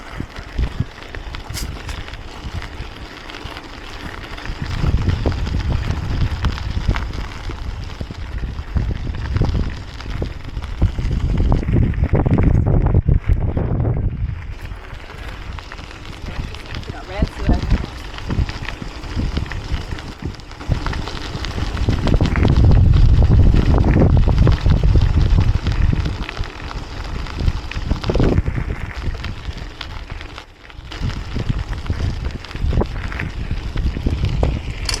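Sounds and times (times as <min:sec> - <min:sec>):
bike knocks and rattles: 0:00.0 - 0:26.4, 0:30.8 - 0:35.0
wind buffeting microphone: 0:00.0 - 0:35.0.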